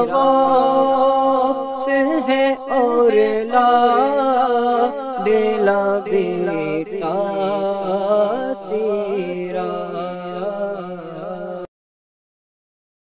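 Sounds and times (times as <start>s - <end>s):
man singing devotional song: 0.0s - 11.7s.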